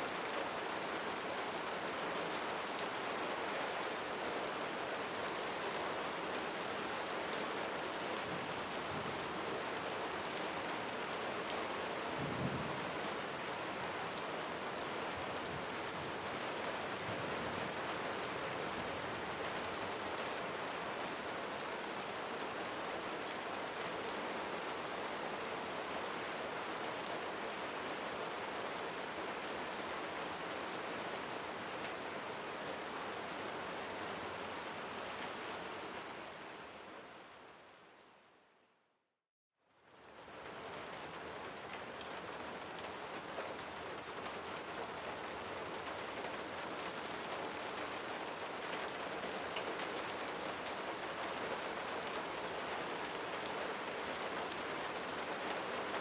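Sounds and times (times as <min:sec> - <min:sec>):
rain falling on leaves: 0:00.0 - 0:38.6, 0:39.6 - 0:56.0.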